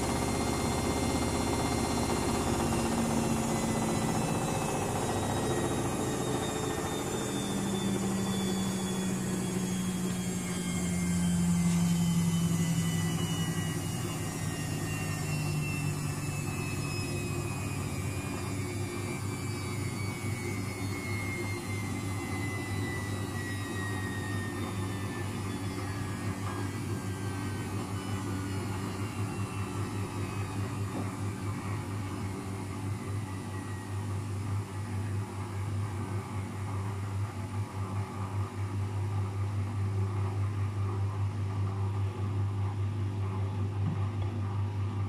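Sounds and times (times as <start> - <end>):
washing machine spinning down: 0.0 - 45.0.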